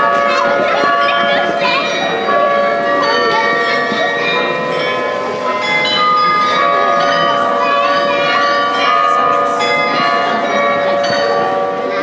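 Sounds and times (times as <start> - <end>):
carillon bells playing a tune: 0.0 - 12.0
crowd chatter: 0.0 - 12.0.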